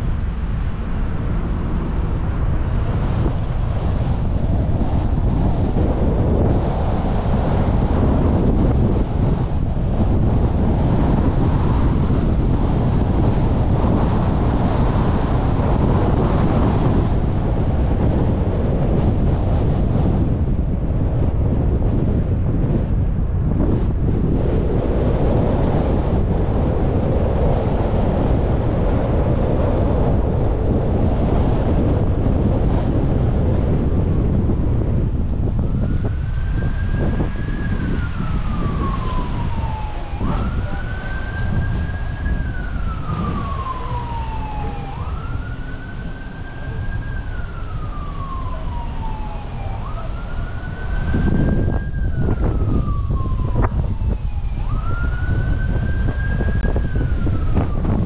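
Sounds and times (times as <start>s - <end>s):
road and wind noise from car: 0.0s - 58.0s
emergency siren wailing: 0.2s - 58.0s.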